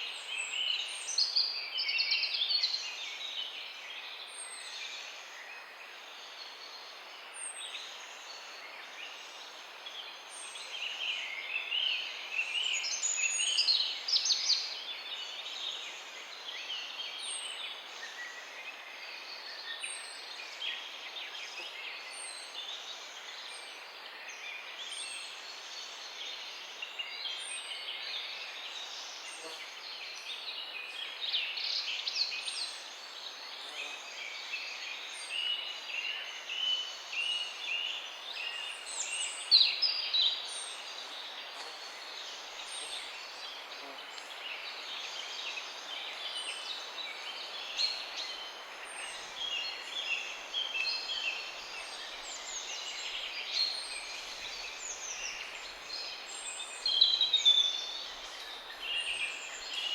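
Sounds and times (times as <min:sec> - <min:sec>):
background hiss: 0:00.0 - 0:59.9
songbirds chirping and trilling: 0:03.4 - 0:59.9.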